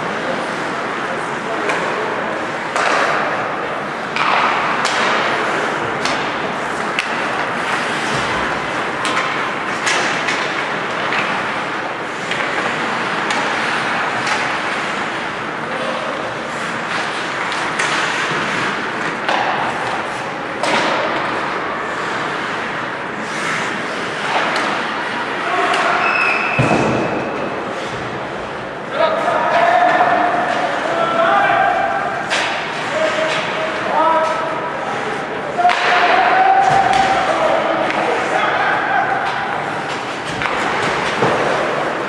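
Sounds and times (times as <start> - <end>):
arena noise: 0.0 - 42.0
hockey sticks and puck clacking: 0.0 - 42.0
skates scraping on ice: 0.0 - 42.0.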